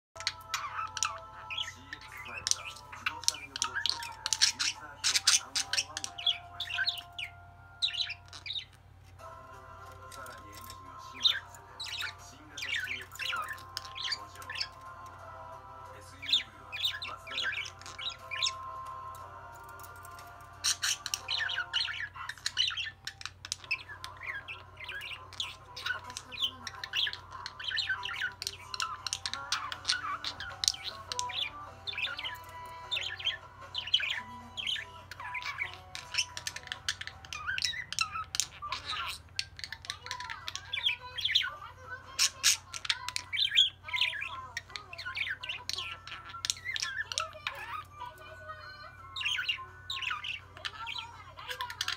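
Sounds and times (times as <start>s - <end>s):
budgerigar warbling: 0.2s - 8.8s, 10.1s - 15.0s, 15.9s - 18.9s, 20.6s - 51.9s.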